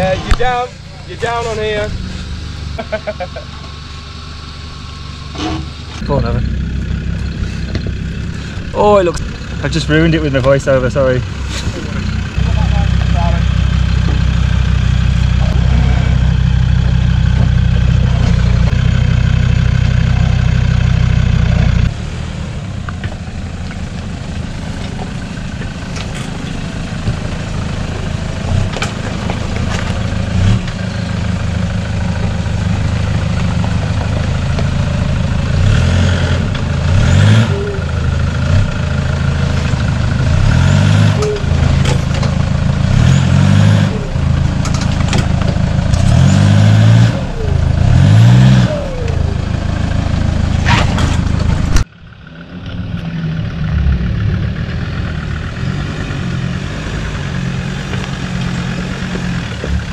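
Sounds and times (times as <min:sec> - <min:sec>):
engine running loudly: 0:00.0 - 0:59.9
pickup engine revving: 0:00.0 - 0:59.9.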